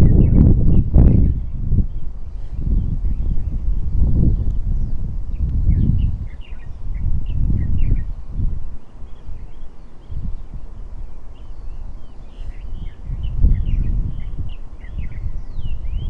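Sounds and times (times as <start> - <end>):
small birds chirping: 0.0 - 16.0
wind on microphone: 0.0 - 16.0.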